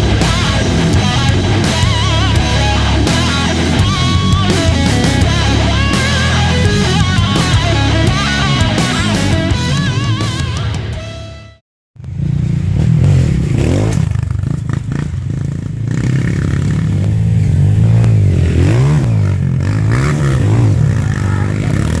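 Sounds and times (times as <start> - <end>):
motorcycle engine revving: 0.0 - 11.0, 12.0 - 22.0.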